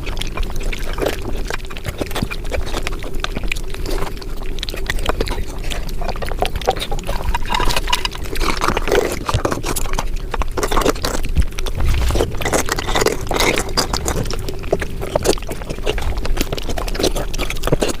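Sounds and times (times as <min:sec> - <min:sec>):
sped-up chewing and slurping: 0:00.0 - 0:18.0.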